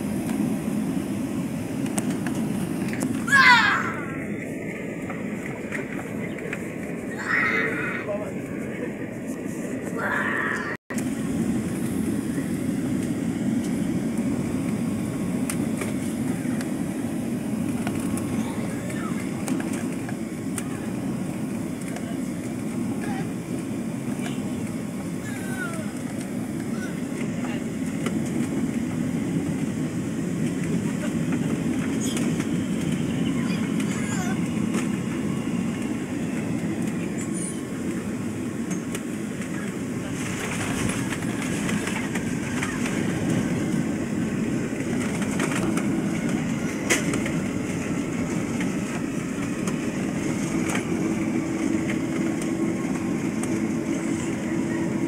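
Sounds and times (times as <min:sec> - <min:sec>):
airliner cabin rumble: 0:00.0 - 0:55.0
steady low hum: 0:00.0 - 0:55.0.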